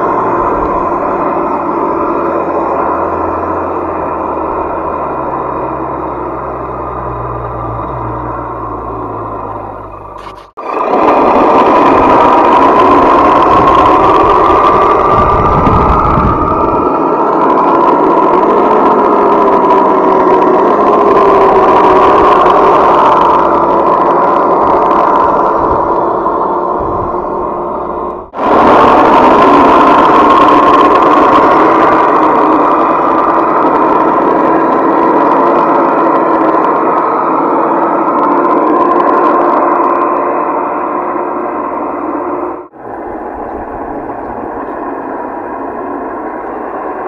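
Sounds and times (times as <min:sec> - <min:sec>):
toy car motor whine: 0:00.0 - 0:47.0.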